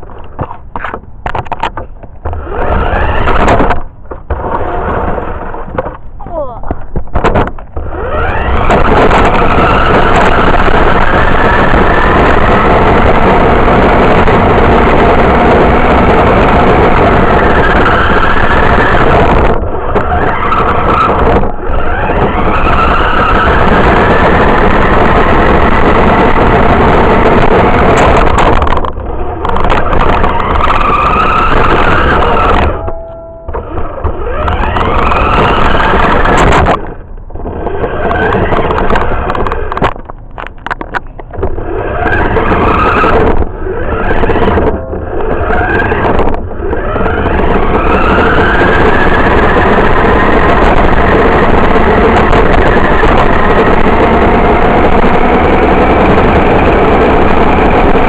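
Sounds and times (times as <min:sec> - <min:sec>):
toy car motor whine: 0:02.3 - 0:05.7, 0:07.8 - 0:39.8, 0:41.5 - 0:58.0.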